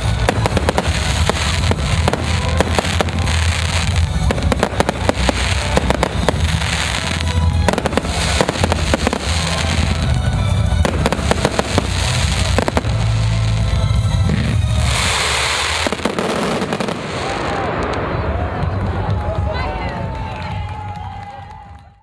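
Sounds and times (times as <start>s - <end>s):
fireworks bangs: 0.0s - 19.5s
fireworks crackling: 0.0s - 21.8s.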